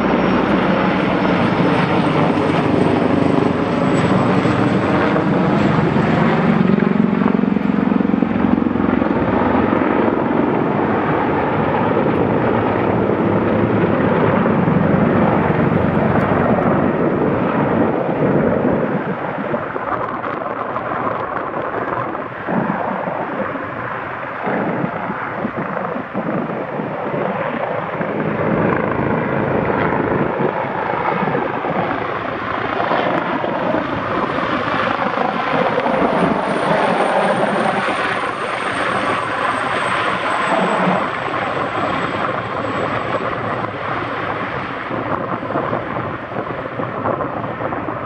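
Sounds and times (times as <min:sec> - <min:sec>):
helicopter rotors overhead: 0:00.0 - 0:48.0
high turbine whine: 0:00.0 - 0:48.0.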